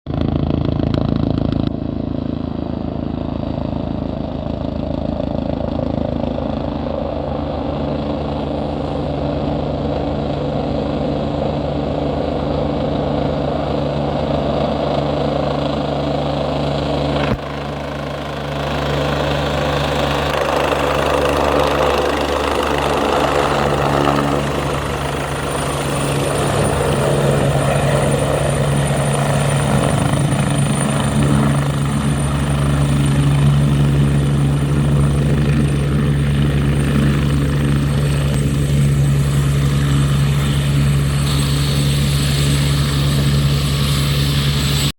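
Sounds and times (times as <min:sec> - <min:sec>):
helicopter rotor chop: 0:00.1 - 0:44.9.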